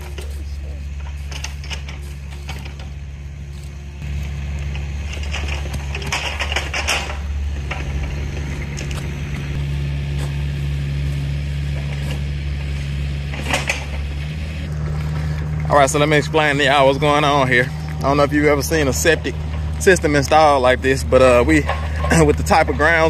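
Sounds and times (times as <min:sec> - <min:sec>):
engine running: 0:00.0 - 0:23.0
metallic clanks and rattles: 0:00.0 - 0:23.0.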